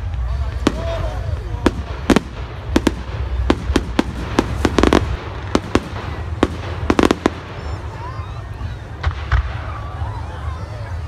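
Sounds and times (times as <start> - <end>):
fireworks bangs and cracks: 0.0 - 10.1.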